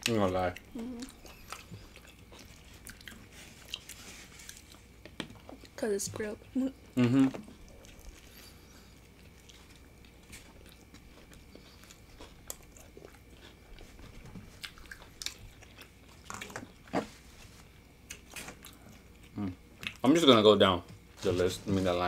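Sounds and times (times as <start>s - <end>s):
people chewing food: 0.0s - 22.0s.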